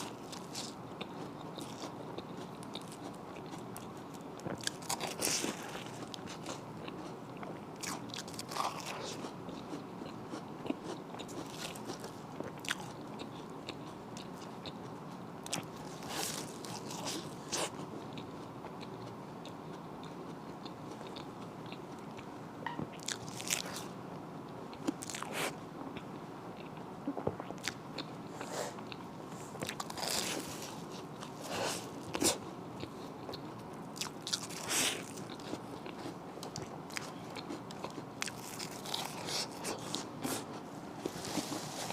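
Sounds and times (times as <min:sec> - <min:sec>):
person chewing food: 0:00.0 - 0:23.9, 0:24.7 - 0:41.9.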